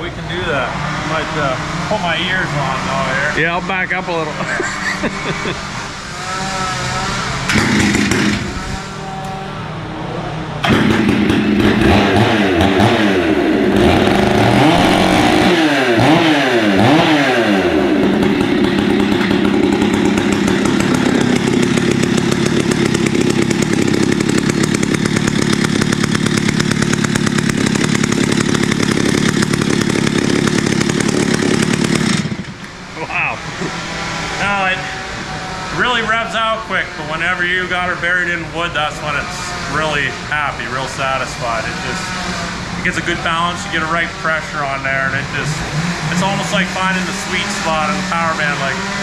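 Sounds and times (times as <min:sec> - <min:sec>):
chainsaw starting and revving: 0:00.0 - 0:09.8, 0:10.6 - 0:49.0.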